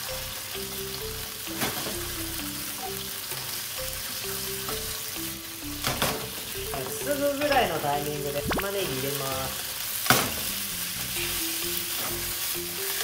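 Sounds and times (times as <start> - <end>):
pork sizzling in frying pan: 0.0 - 13.0.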